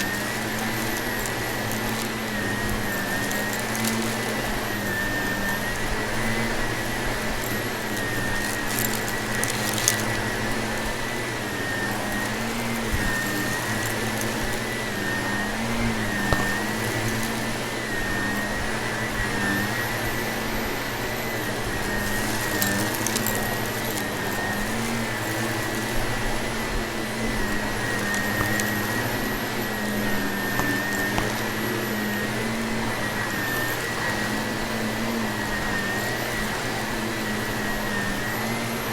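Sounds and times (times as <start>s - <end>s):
crackles of debris being sucked up: 0.0s - 38.9s
vacuum cleaner running: 0.0s - 38.9s.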